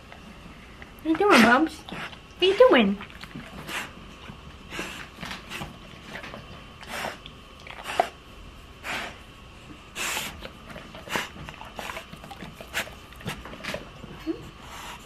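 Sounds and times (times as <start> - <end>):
dog snorting and sniffing: 0.6 - 2.3, 3.0 - 8.2, 8.8 - 9.3, 9.9 - 15.0.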